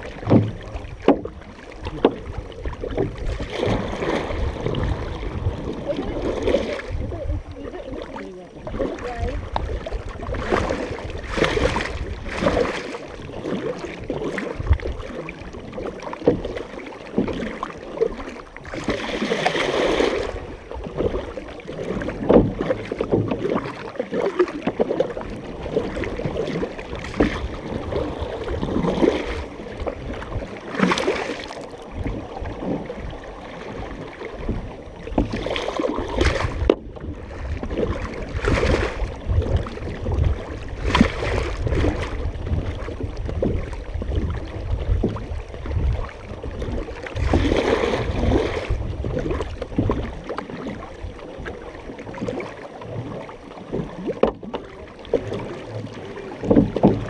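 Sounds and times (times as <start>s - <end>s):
paddles splashing in water: 0.0s - 57.0s
water running along hull: 0.0s - 57.0s.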